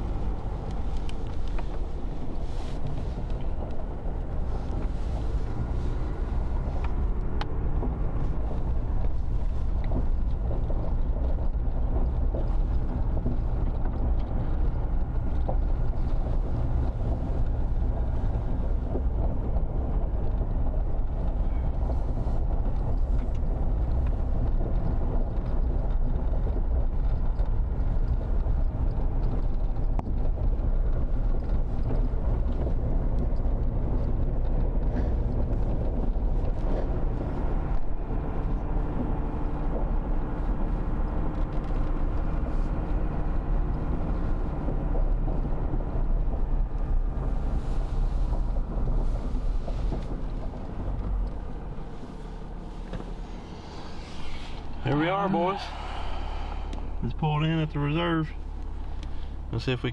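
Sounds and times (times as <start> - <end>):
engine and road rumble: 0.0 - 59.9
tyres crackling on gravel: 0.0 - 59.9.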